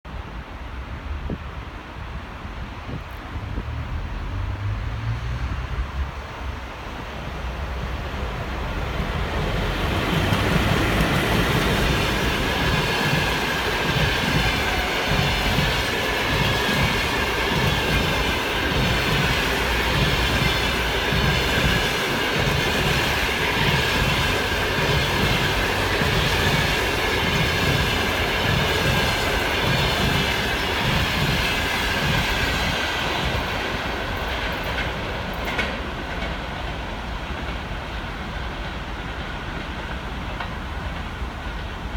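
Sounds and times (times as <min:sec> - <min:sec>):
train wheels clickety-clack: 0:07.7 - 0:41.9.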